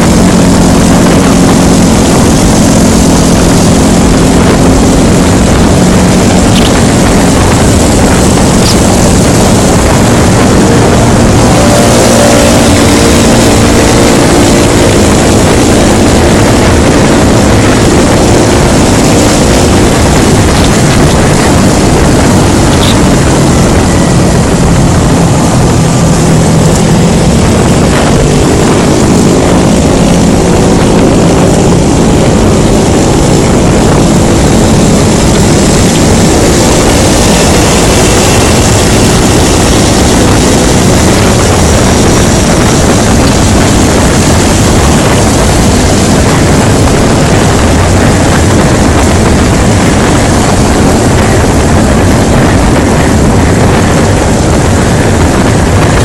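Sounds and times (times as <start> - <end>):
engine drone: 0.0 - 56.0
wind and road rush: 0.0 - 56.0.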